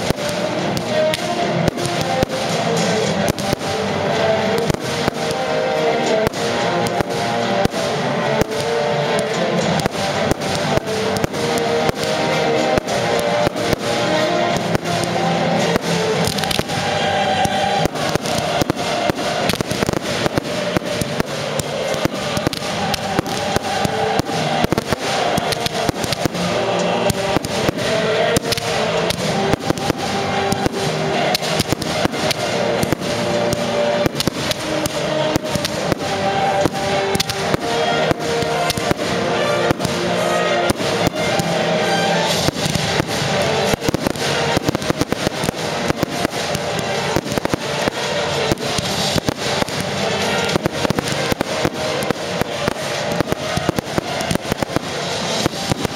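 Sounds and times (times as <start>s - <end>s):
fireworks bangs and crackles: 0.0s - 55.9s
music: 0.0s - 55.9s.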